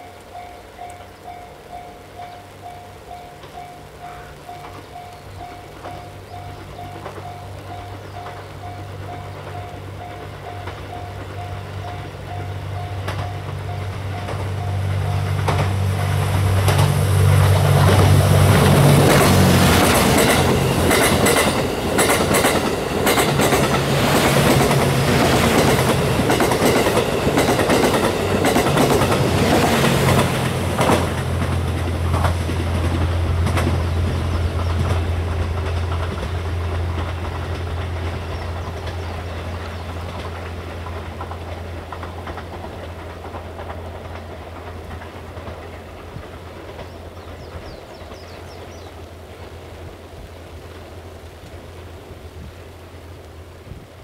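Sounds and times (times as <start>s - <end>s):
wheels clicking over rail joints: 0.0s - 51.9s
train engine drone: 0.0s - 54.0s.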